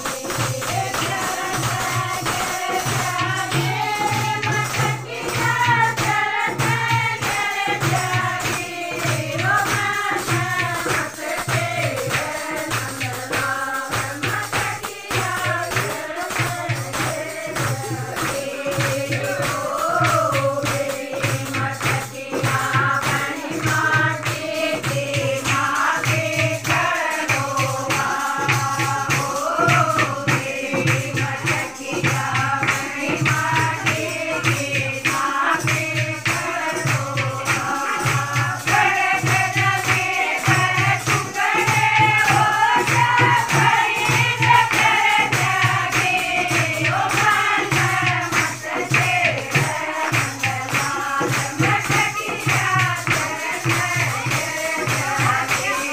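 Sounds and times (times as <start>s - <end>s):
handclapping: 0.0s - 55.9s
steady drum beat: 0.0s - 55.9s
women singing together: 0.0s - 55.9s.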